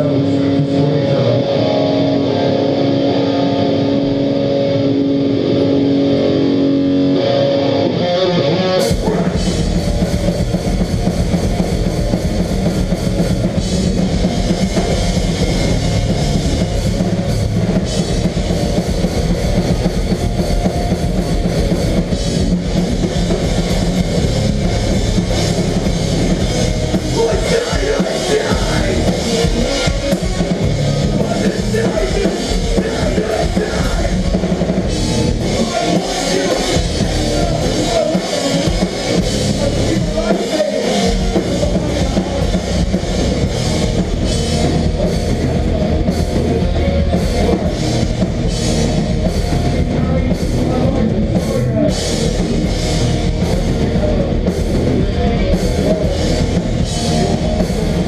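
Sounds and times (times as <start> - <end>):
bass guitar: 0.0 - 58.0
distorted guitars: 0.0 - 58.0
pounding drum kit: 8.7 - 58.0.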